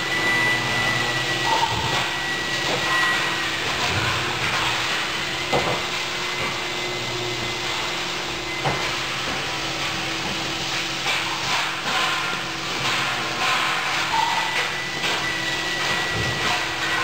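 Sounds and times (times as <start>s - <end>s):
hissing machinery hum: 0.0s - 17.0s.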